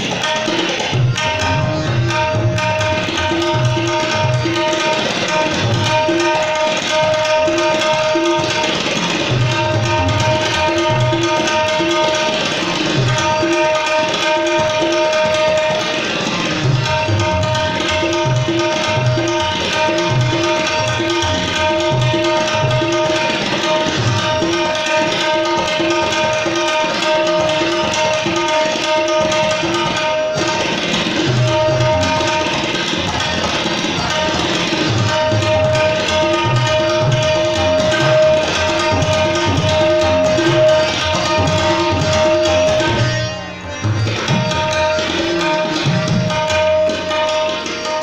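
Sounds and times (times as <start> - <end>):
harmonium melody: 0.0 - 48.0
tabla strokes: 0.0 - 48.0.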